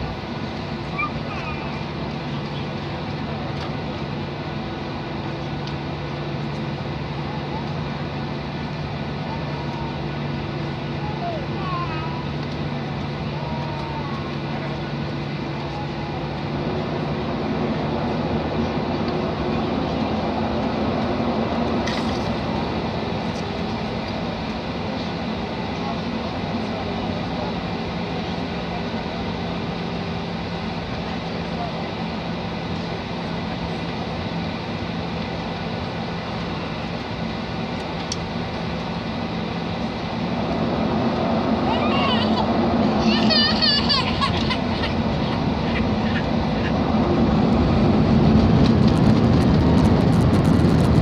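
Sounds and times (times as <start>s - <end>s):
jet engines droning in cabin: 0.0s - 51.0s.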